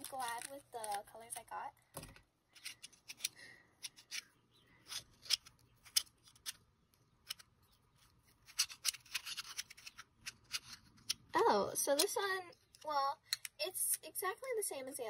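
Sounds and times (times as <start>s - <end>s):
magnetic pieces clicking: 0.0s - 1.5s, 2.1s - 14.7s.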